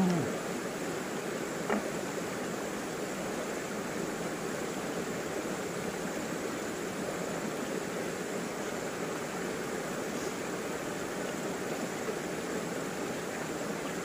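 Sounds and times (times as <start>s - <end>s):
river running over rocks: 0.0s - 14.0s.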